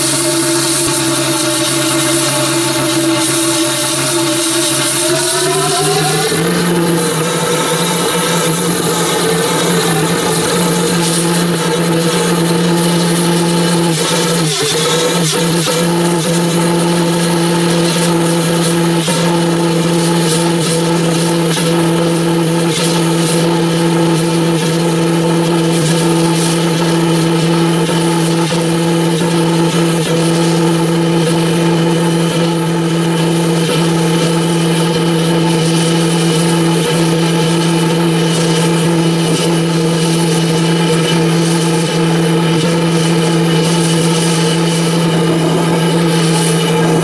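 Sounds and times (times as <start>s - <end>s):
pulse jet engine droning: 0.0s - 21.4s, 30.8s - 47.0s.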